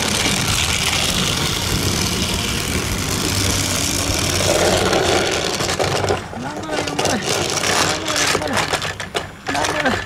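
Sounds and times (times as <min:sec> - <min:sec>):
toy motor whirring: 0:00.0 - 0:08.9
rattling plastic track: 0:00.0 - 0:10.0.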